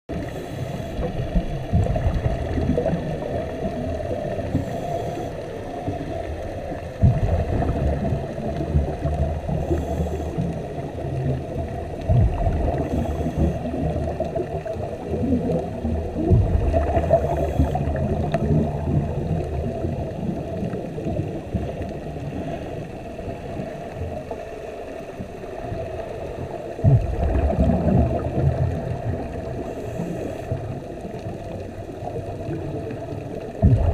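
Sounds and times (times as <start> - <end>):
low muffled underwater rumble: 0.1 - 33.9
scuba exhaust bubbles gurgling: 0.1 - 33.9.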